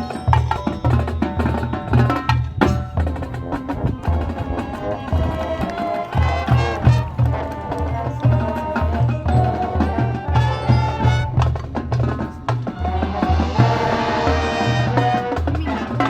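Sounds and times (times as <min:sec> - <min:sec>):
drumline percussion: 0:00.0 - 0:16.0
marching band playing: 0:00.0 - 0:16.0.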